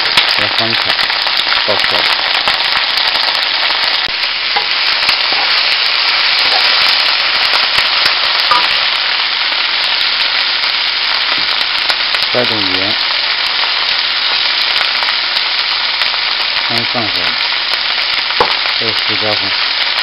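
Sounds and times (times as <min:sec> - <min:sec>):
cabbage sizzling in oil: 0:00.0 - 0:20.0.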